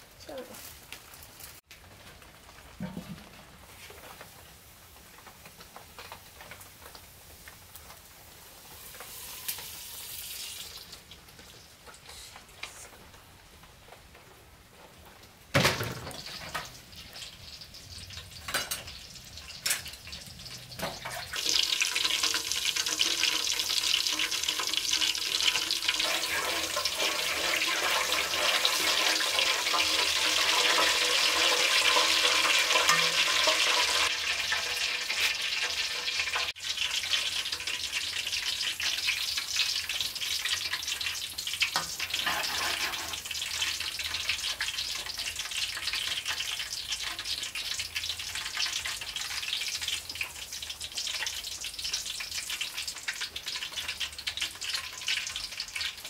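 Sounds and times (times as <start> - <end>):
oil sizzling in a pan: 0.0 - 56.0.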